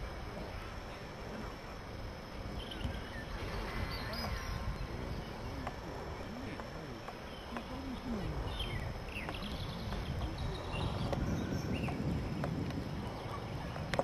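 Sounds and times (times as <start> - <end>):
birds chirping: 0.0 - 14.0
wind rumble on microphone: 0.0 - 14.0.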